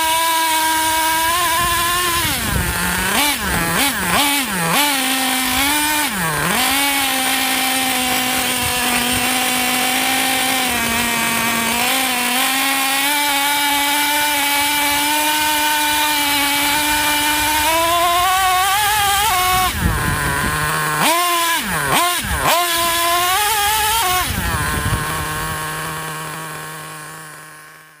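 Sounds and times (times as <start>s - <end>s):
small model engine revving: 0.0s - 28.0s.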